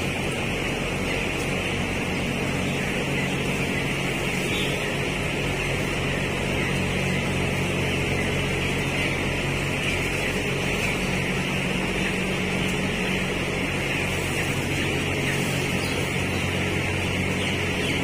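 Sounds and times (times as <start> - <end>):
chicks peeping: 0.0 - 18.0
ventilation fans humming: 0.0 - 18.0.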